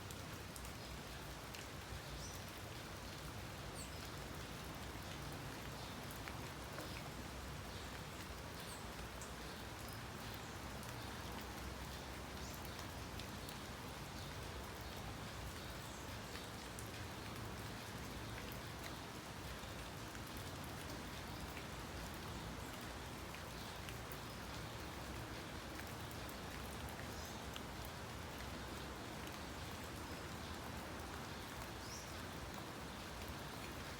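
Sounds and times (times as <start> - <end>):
steady noise like light rain: 0.0 - 33.9.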